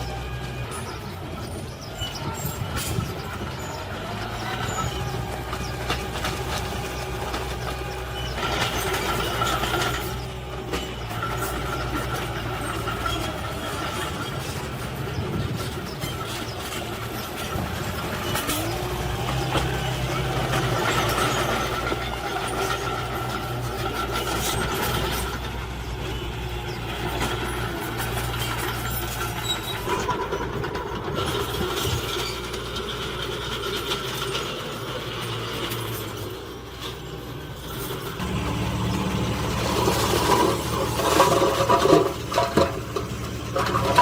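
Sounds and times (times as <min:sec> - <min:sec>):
heavy machinery diesel engine: 0:00.0 - 0:44.0.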